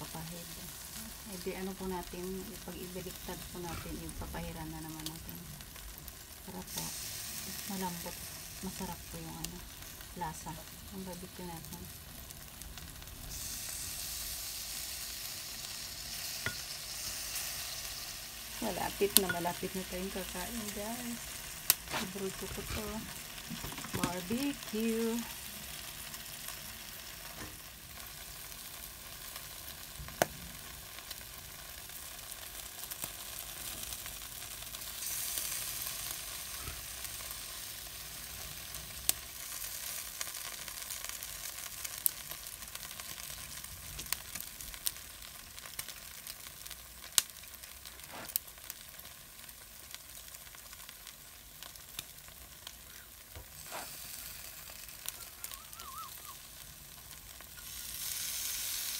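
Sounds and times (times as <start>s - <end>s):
meat skewers sizzling on a grill: 0.0s - 58.9s.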